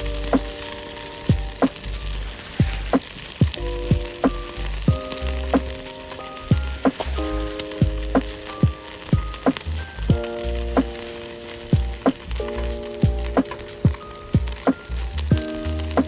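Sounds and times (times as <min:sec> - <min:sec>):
background music with held chords: 0:00.0 - 0:16.0
continuous crackling sizzle: 0:00.0 - 0:16.0.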